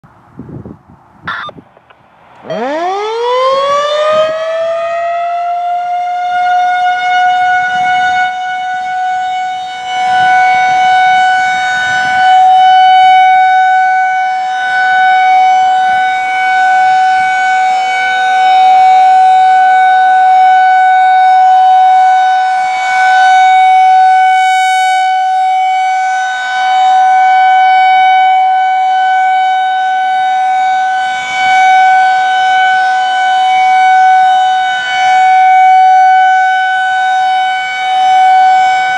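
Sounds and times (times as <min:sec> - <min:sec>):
rotating warning siren steady tone: 0:01.2 - 0:38.9.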